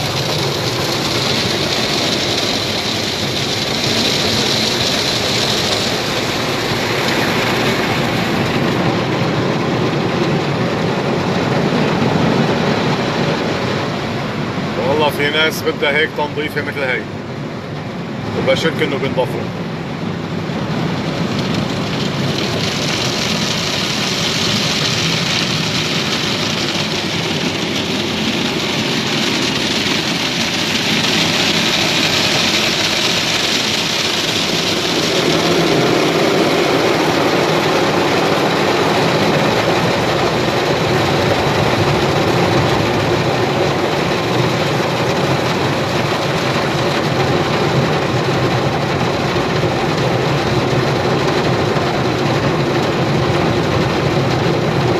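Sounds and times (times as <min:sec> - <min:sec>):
car wash water and machinery rushing: 0:00.0 - 0:54.9.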